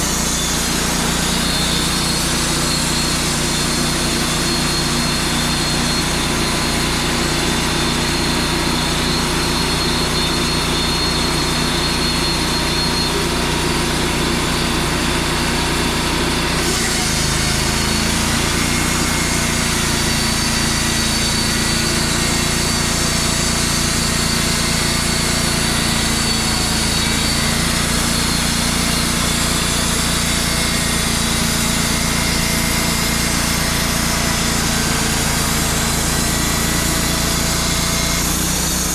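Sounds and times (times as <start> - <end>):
band sawmill engine droning: 0.0 - 38.9.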